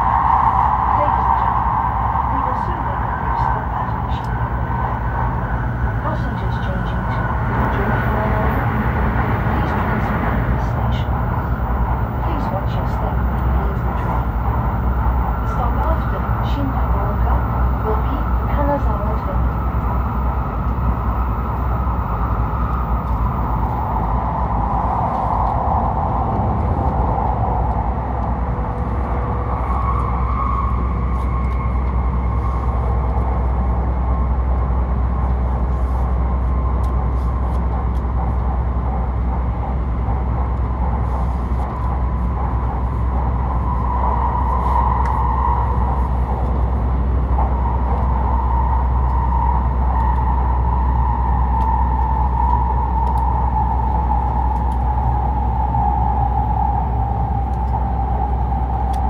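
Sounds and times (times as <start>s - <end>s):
train cabin rumble and hiss: 0.0s - 59.0s.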